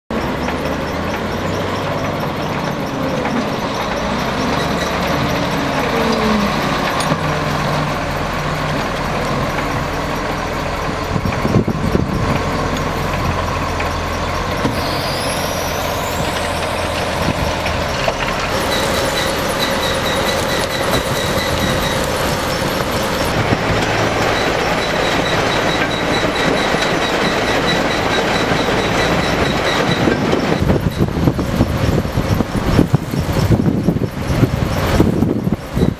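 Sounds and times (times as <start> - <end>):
din of plant machinery: 0.1 - 35.9
wheel loader engine under load: 0.1 - 35.9.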